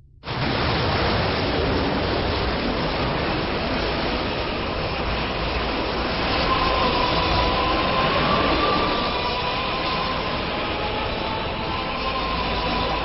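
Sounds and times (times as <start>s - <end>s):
loud steady rushing noise: 0.3s - 13.0s.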